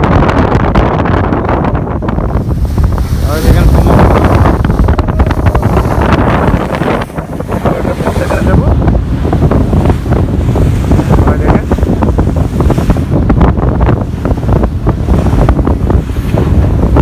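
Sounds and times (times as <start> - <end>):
water rushing past boat: 0.0 - 17.0
wind rumble on microphone: 0.0 - 17.0.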